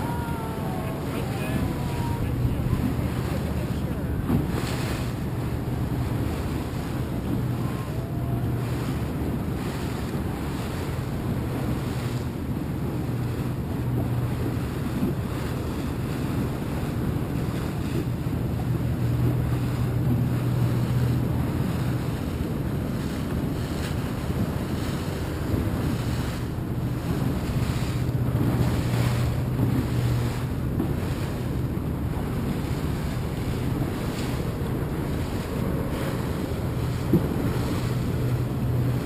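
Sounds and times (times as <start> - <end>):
boat motor humming: 0.0 - 39.0
water splashing against hull: 0.0 - 39.0
wind buffeting microphone: 0.0 - 39.0.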